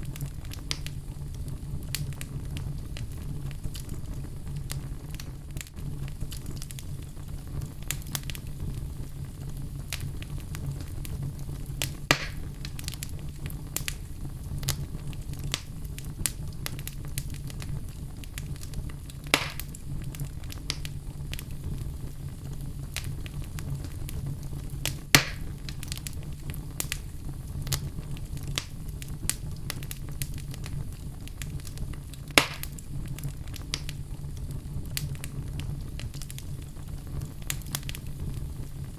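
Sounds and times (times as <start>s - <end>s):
loud fire pops: 0.0s - 38.9s
wood fire crackling: 0.0s - 38.9s.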